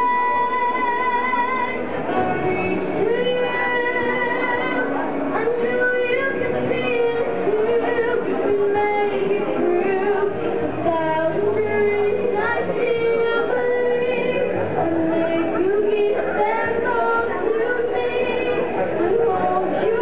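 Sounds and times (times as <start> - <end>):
musical accompaniment: 0.0 - 20.0
woman singing into a microphone: 0.0 - 20.0.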